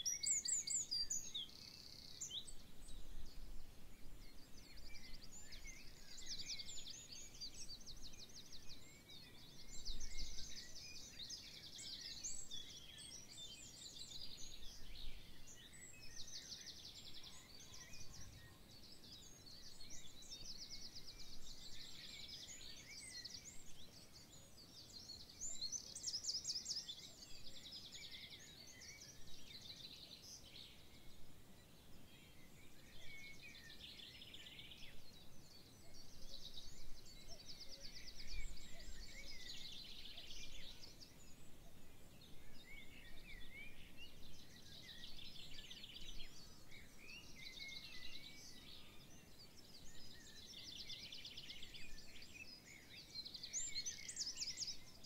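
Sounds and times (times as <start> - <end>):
songbirds chorus: 0.0 - 55.0.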